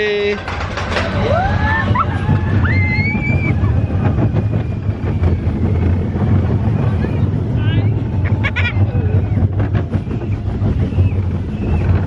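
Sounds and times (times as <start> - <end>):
ride vehicle rumbling: 0.0 - 12.0
high rising squeals: 0.5 - 12.0.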